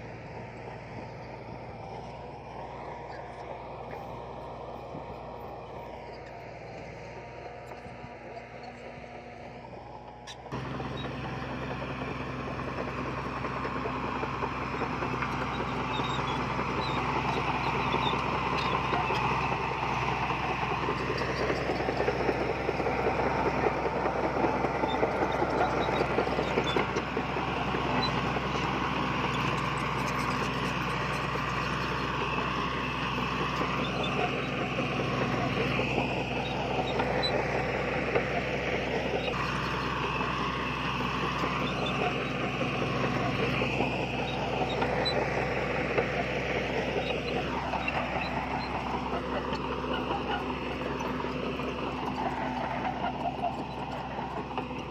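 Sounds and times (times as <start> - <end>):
heavy machinery diesel engine: 0.0 - 54.9.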